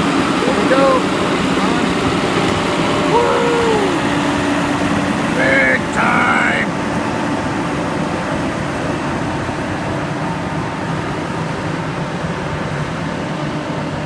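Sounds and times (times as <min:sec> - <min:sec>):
heavy equipment diesel engines: 0:00.0 - 0:14.0.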